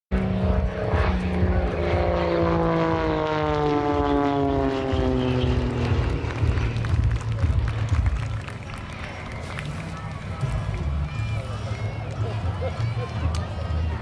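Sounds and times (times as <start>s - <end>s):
propeller plane engine: 0.1s - 13.0s.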